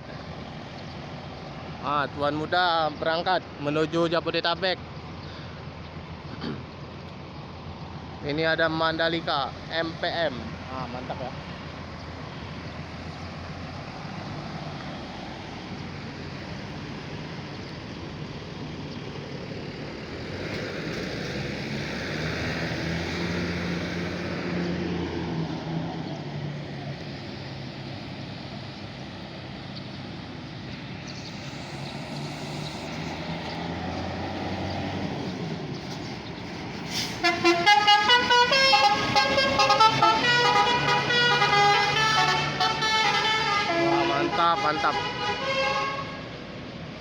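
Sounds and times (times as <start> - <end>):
bus diesel engine running: 0.0 - 21.8, 23.2 - 47.0.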